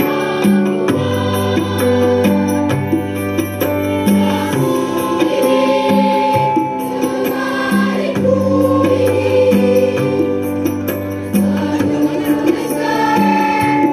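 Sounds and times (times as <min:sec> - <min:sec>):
school choir singing: 0:00.0 - 0:02.4, 0:04.2 - 0:10.4, 0:11.4 - 0:13.9.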